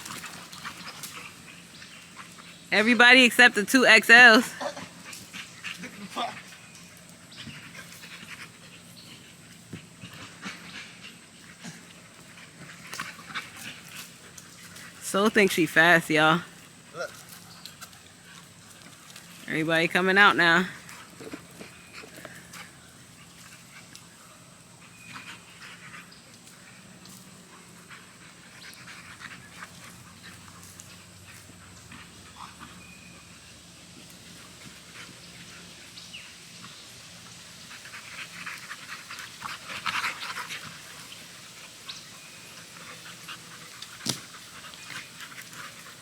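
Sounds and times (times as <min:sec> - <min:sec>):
dogs panting: 0:00.0 - 0:46.0.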